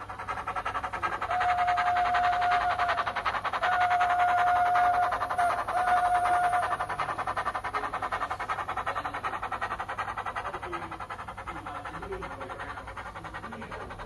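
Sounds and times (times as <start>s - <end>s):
recorded steam chuffs through small speaker: 0.0s - 14.0s.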